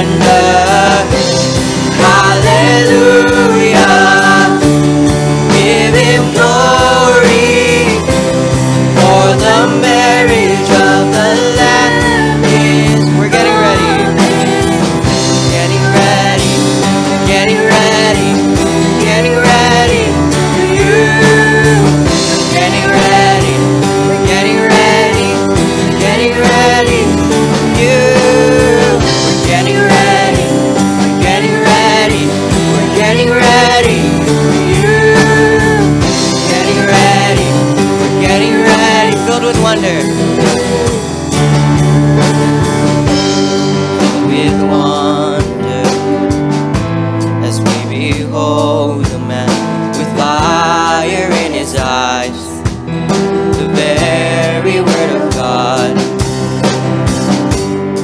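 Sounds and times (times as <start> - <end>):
worship band music: 0.0 - 58.0.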